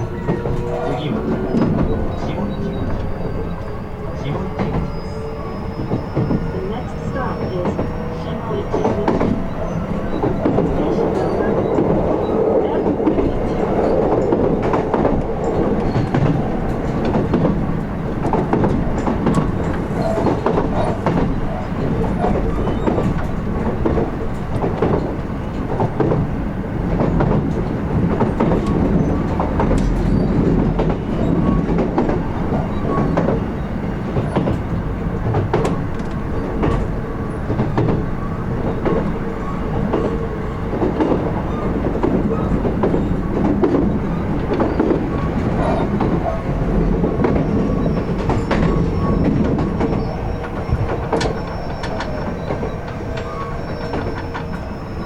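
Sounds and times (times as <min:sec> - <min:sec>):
clickety-clack over rail joints: 0:00.0 - 0:55.0
train wheels rumbling: 0:00.0 - 0:55.0.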